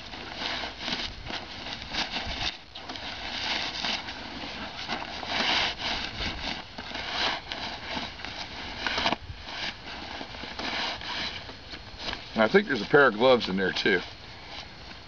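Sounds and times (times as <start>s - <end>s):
fabric rustling and crinkling: 0.0s - 15.0s.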